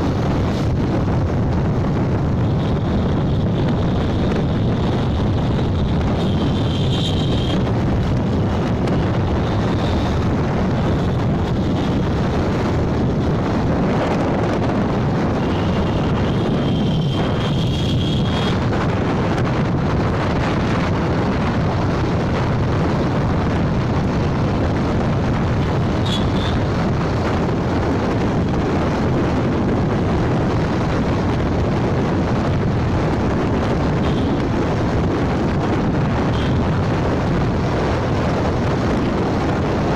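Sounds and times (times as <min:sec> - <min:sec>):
motorcycle road and engine noise: 0:00.0 - 0:39.9
wind buffeting microphone: 0:00.0 - 0:39.9.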